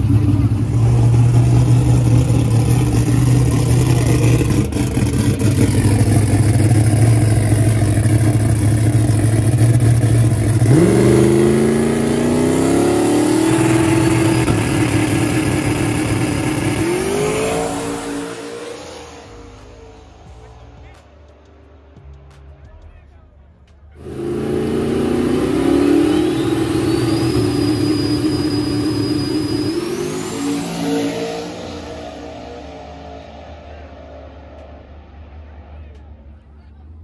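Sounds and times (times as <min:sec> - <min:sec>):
drag car engine revving: 0:00.0 - 0:22.2, 0:24.0 - 0:36.1.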